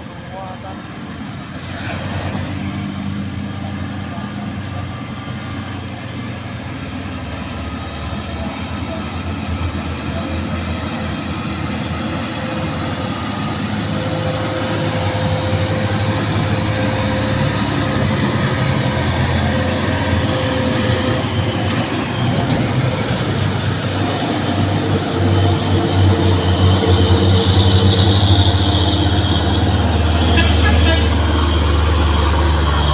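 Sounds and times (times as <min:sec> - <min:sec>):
heavy truck engine running: 0:02.6 - 0:32.9.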